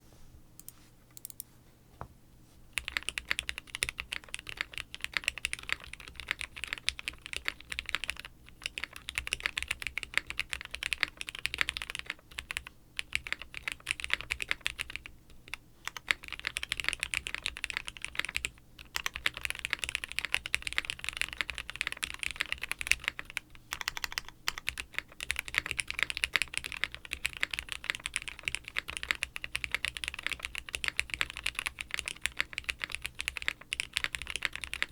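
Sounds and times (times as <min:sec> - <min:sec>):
typing on mechanical keyboard: 0:02.8 - 0:34.9.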